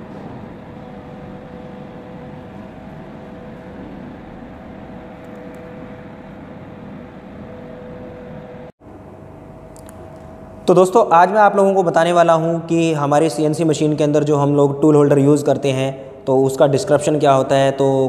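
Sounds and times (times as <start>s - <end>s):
steady tones: 0.0s - 17.4s
mechanical hum and hiss: 0.0s - 18.0s.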